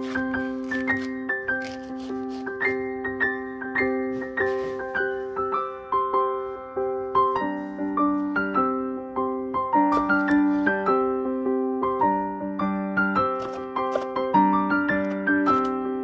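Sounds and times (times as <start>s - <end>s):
gentle piano-like melody: 0.0s - 16.0s.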